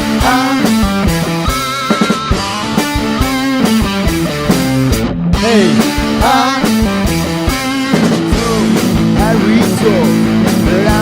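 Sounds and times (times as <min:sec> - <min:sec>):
bass guitar: 0:00.0 - 0:11.0
drum kit steady beat: 0:00.0 - 0:11.0
guitars with bent notes: 0:00.0 - 0:11.0.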